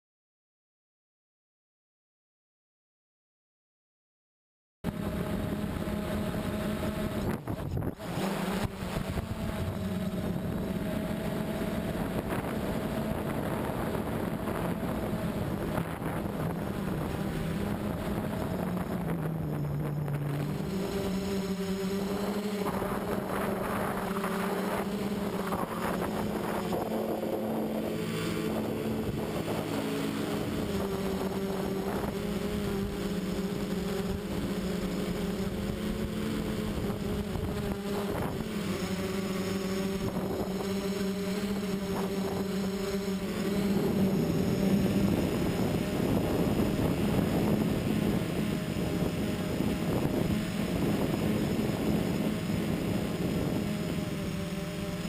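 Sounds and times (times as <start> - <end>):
quadcopter motors whining: 4.9 - 55.0.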